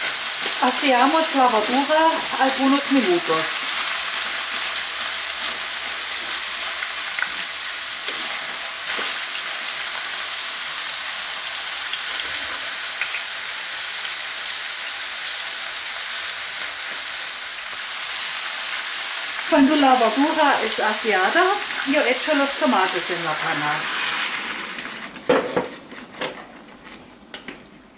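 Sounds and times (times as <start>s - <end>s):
vegetables sizzling in oil: 0.0s - 25.7s.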